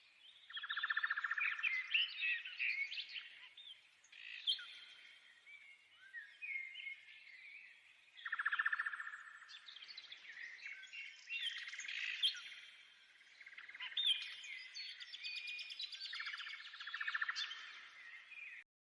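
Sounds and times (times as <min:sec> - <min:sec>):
birds chirping and whistling: 0:00.2 - 0:18.6.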